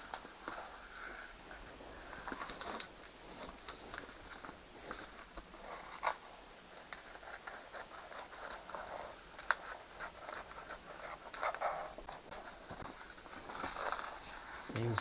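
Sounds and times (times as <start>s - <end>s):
wallpaper rustling and crinkling: 0.0s - 15.0s.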